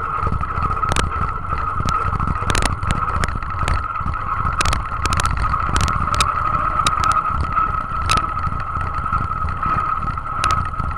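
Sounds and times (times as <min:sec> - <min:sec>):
high whine: 0:00.0 - 0:10.9
tractor engine rumbling: 0:00.0 - 0:10.9.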